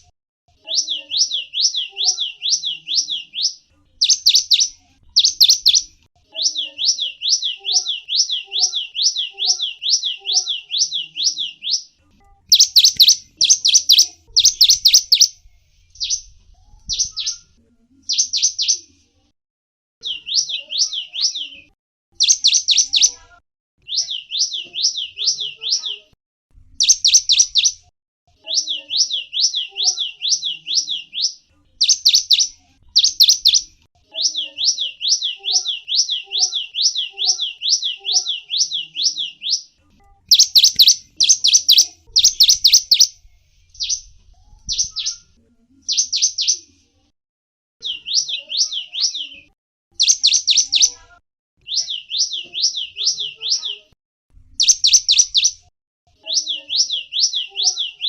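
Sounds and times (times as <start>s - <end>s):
bird calling with high chirps: 0.0s - 16.3s, 16.9s - 17.5s, 20.0s - 23.2s, 23.8s - 26.0s, 26.8s - 27.8s, 28.4s - 44.1s, 44.7s - 46.6s, 47.8s - 51.0s, 51.6s - 53.8s, 54.6s - 55.6s, 56.2s - 58.0s.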